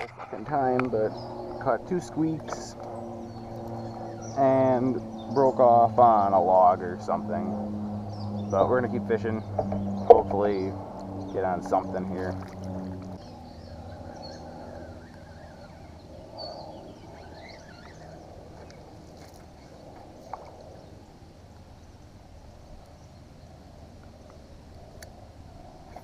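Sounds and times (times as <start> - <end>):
low water wash: 0.0 - 26.0.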